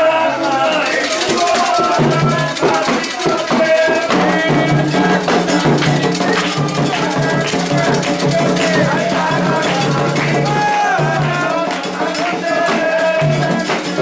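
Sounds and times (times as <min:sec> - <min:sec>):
drums: 0:00.0 - 0:14.0
shaken rattles: 0:00.0 - 0:14.0
voices singing: 0:00.0 - 0:14.0.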